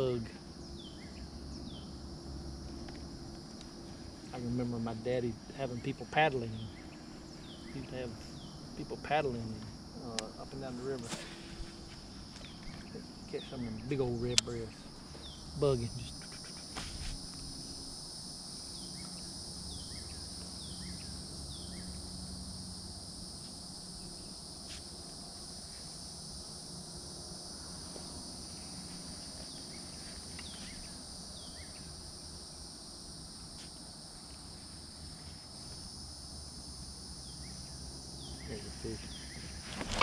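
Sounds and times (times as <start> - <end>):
crickets and insects chorus: 0.0 - 40.0.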